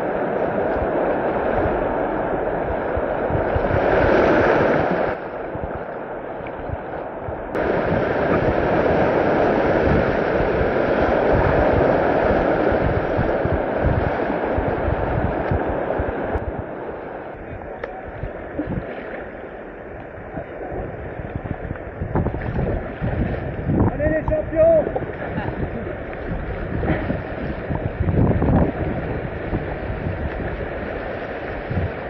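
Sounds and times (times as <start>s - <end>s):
rushing river water: 0.0s - 32.0s.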